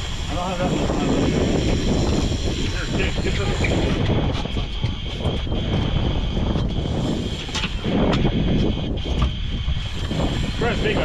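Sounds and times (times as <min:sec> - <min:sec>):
outboard motor running: 0:00.0 - 0:11.0
wind buffeting microphone: 0:00.0 - 0:11.0.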